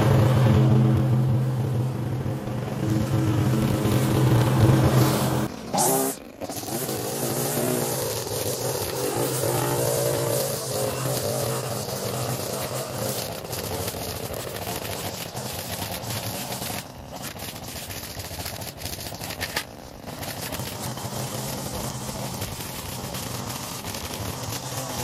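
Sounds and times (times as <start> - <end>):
small gasoline engine running: 0.0 - 25.0.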